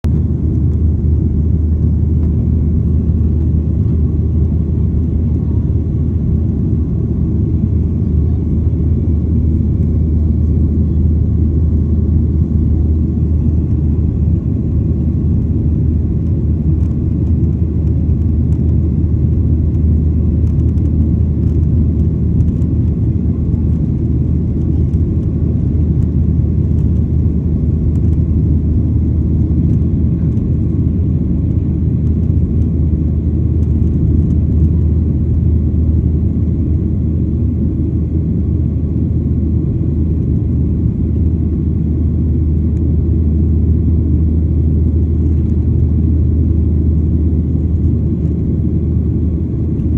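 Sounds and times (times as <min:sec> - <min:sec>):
low engine rumble: 0:00.0 - 0:49.9.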